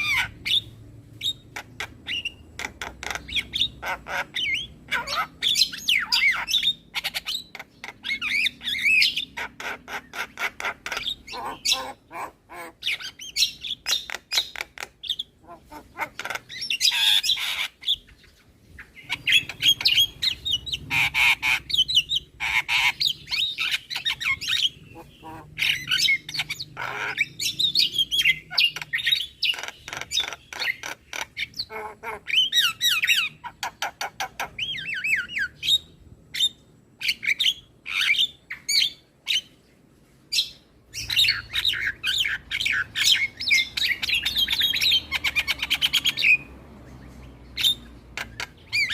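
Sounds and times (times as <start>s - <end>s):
myna bird chattering and whistling: 0.0s - 39.6s, 40.3s - 48.9s.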